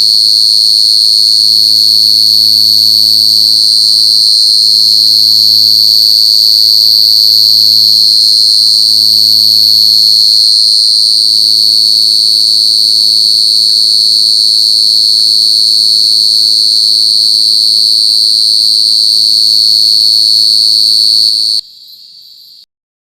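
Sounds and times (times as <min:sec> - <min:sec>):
cricket trilling: 0:00.0 - 0:22.7.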